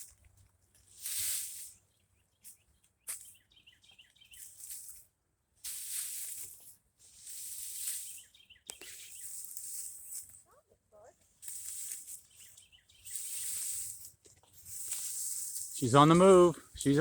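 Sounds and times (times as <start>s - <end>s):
brush rustling and swishing: 0.0s - 3.4s, 4.0s - 17.0s
small birds chirping: 0.0s - 5.1s, 6.2s - 17.0s.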